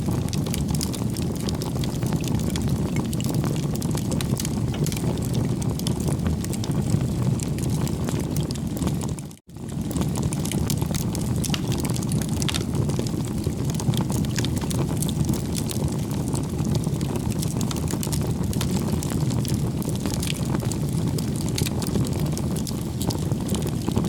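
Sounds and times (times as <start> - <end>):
bonfire flames rushing: 0.0 - 24.0
burning wood crackling: 0.0 - 24.0.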